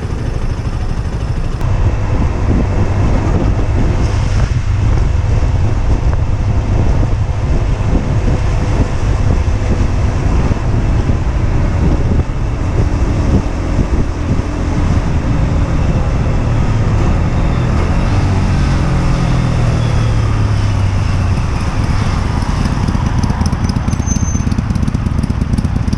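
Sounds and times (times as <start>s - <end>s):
wind rush: 0.0s - 23.9s
motorcycle engine running: 0.0s - 25.9s.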